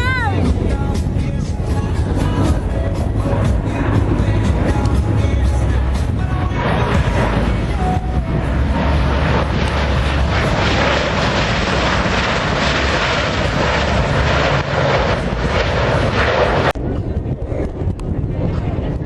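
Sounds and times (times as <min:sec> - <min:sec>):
aircraft engine roar: 0:00.0 - 0:19.0.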